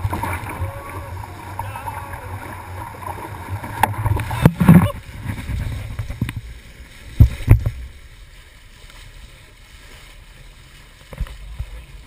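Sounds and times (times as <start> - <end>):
water splashing along a hull: 0.0 - 12.0.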